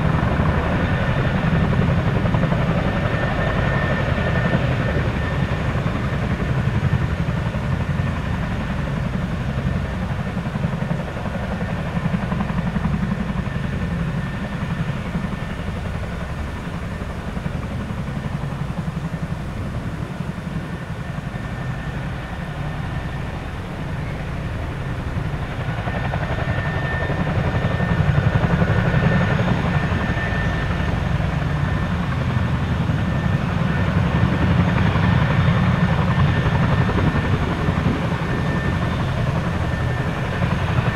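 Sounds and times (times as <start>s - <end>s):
helicopter engines whining: 0.0s - 40.9s
helicopter rotor beat: 0.0s - 40.9s.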